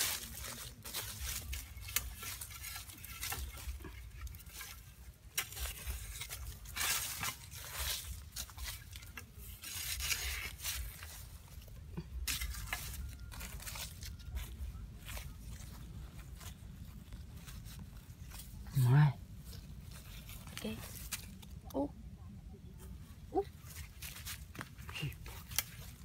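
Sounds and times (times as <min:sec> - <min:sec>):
hands scraping dry soil and leaves: 0:00.0 - 0:21.8, 0:22.9 - 0:26.0.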